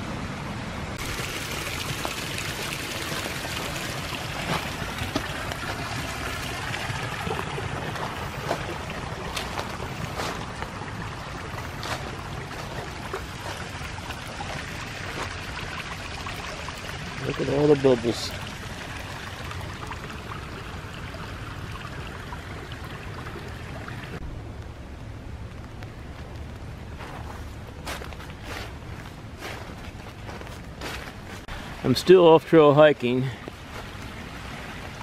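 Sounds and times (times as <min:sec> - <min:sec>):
stream trickling: 0:00.9 - 0:24.3, 0:26.4 - 0:35.0.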